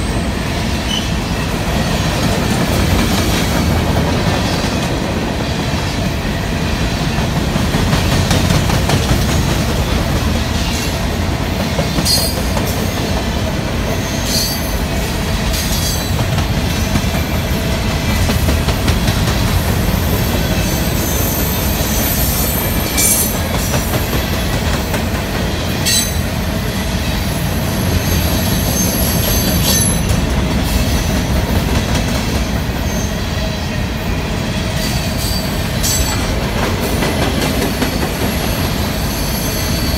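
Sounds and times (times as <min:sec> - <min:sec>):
train cars clanking: 0:00.0 - 0:39.9
train wheels rumbling on rails: 0:00.0 - 0:39.9.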